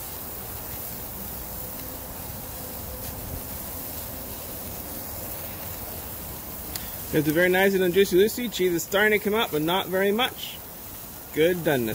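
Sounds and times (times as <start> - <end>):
burger patties sizzling: 0.0 - 11.9
gas burner hiss and rumble: 0.0 - 11.9.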